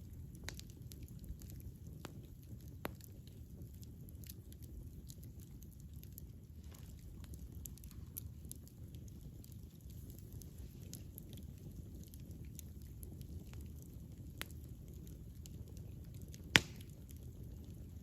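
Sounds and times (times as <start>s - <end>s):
campfire rumbling: 0.0s - 18.0s
wood crackling and popping: 0.0s - 18.0s.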